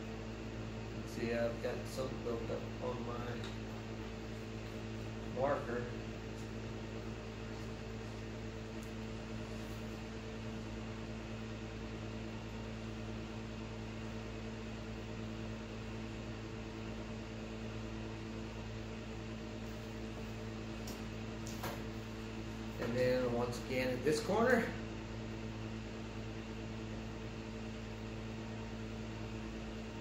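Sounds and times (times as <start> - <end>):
electrical hum with hiss: 0.0 - 30.0.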